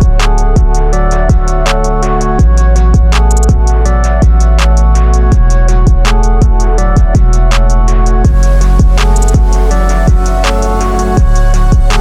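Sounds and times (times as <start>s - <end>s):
music with heavy kick drum: 0.0s - 12.0s.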